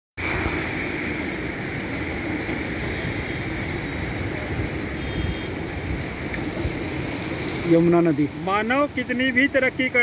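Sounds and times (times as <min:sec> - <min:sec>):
floodwater rushing with low rumble: 0:00.2 - 0:10.0.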